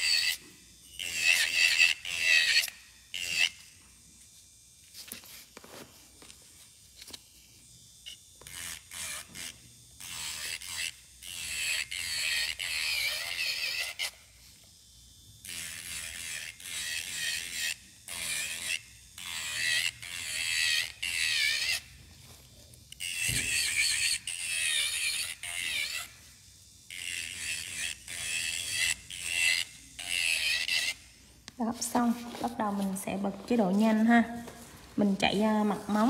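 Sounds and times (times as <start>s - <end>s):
electric nail drill grinding: 0.0s - 36.0s.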